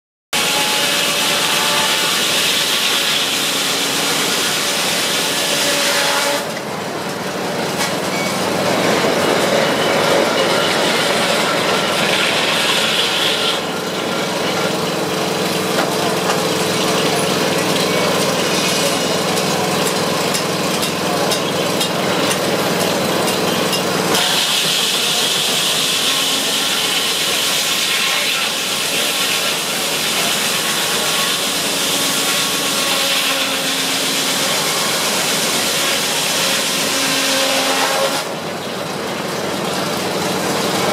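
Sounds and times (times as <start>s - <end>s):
circular saw cutting log: 0.4s - 6.8s, 8.4s - 22.5s, 24.0s - 38.5s.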